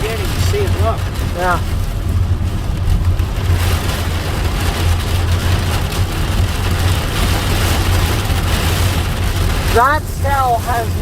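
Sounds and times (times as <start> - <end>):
car engine rumble: 0.0 - 11.0
heavy rain on vehicle: 0.0 - 11.0.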